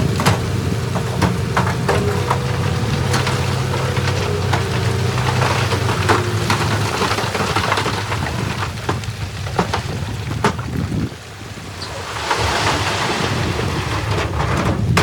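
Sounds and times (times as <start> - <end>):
river water rushing: 0.0 - 14.2
diesel engine humming: 0.0 - 15.0
rocks knocking and clattering: 0.0 - 15.0.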